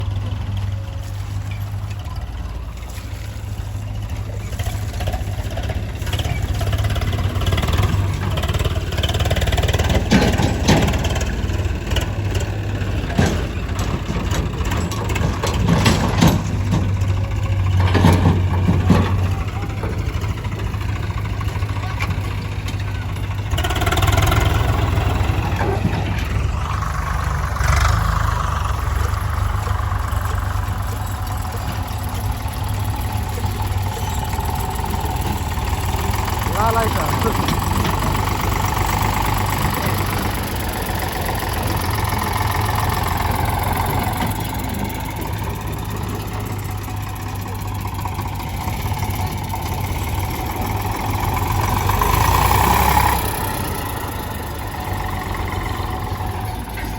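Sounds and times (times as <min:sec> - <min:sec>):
diesel engine working under load: 0:00.0 - 0:56.9
knocks and rattles: 0:04.6 - 0:56.9.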